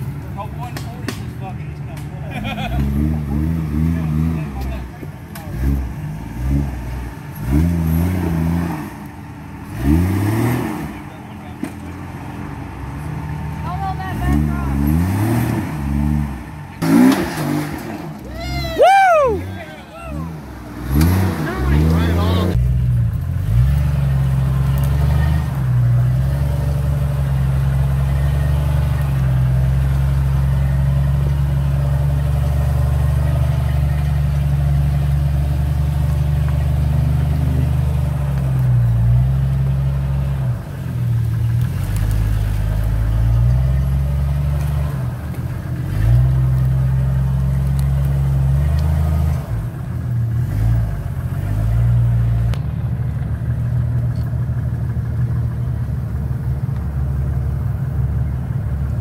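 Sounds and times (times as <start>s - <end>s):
car engine revving at low speed: 0.0s - 18.3s, 19.0s - 59.0s.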